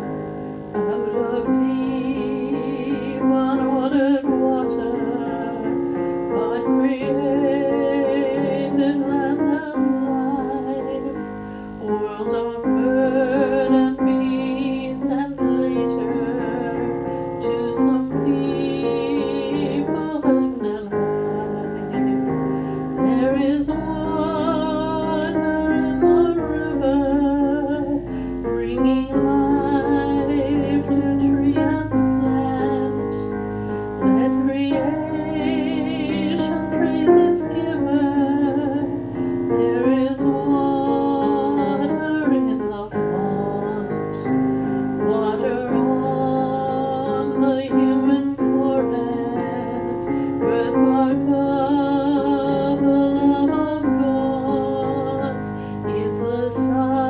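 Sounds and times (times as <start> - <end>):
piano chords: 0.0 - 57.0
hymn singing with vibrato: 0.6 - 57.0.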